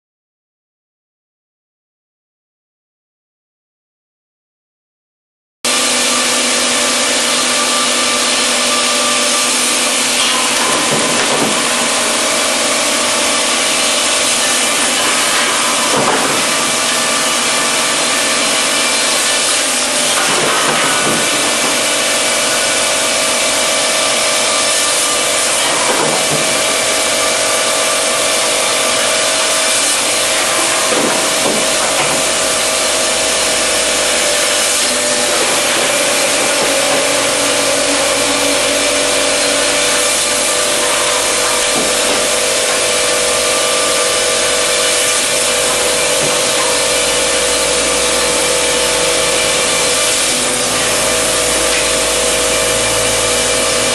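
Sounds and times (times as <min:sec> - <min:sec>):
chainsaw cutting through timber: 0:05.7 - 0:53.9.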